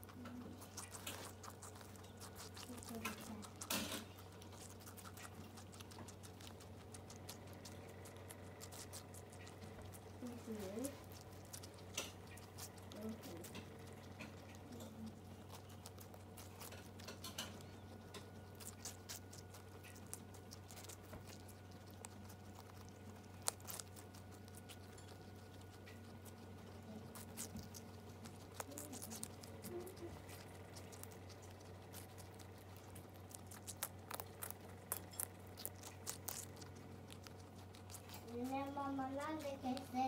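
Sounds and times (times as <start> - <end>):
guinea pigs chewing: 0.0 - 40.0
low steady hum: 0.0 - 40.0.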